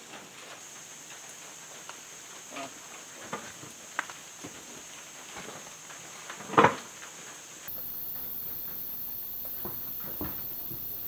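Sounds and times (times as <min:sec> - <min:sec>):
steady hiss: 0:00.0 - 0:06.3, 0:07.4 - 0:11.0.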